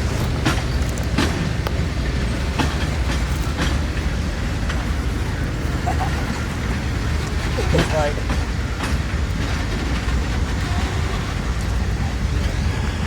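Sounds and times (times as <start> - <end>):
train rumbling along track: 0.0 - 13.0
train wheels clicking: 0.0 - 13.0.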